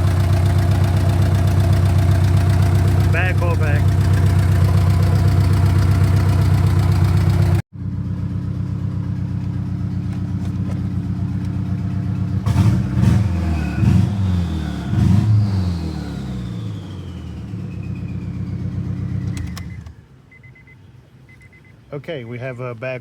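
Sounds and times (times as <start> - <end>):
misfiring car engine revving: 0.0 - 19.9.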